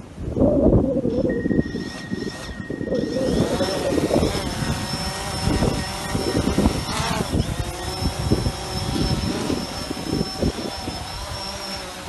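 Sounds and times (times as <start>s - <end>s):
wind buffeting microphone: 0.0s - 12.0s
drone propellers whining: 0.3s - 12.0s.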